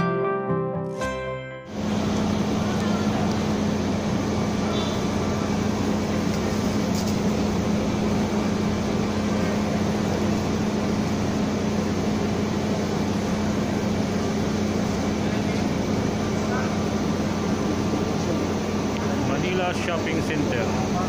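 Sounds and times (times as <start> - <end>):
air-conditioning units humming: 1.7 - 21.0.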